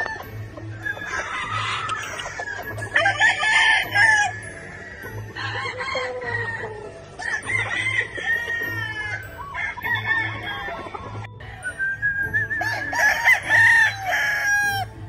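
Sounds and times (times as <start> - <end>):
rooster crowing: 0.0 - 11.2, 12.5 - 14.9
background music with low beat: 0.0 - 15.0
chickens clucking: 0.0 - 15.0.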